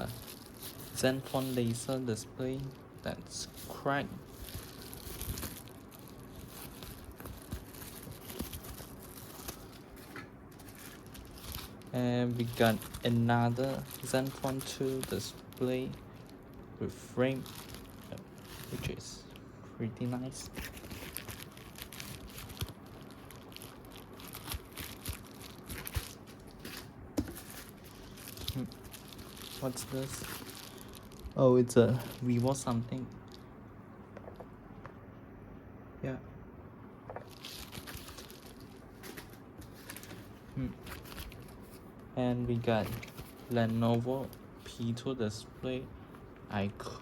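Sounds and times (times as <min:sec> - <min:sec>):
plastic wrapping rustling: 0:00.0 - 0:19.4, 0:20.0 - 0:33.5, 0:37.2 - 0:45.8.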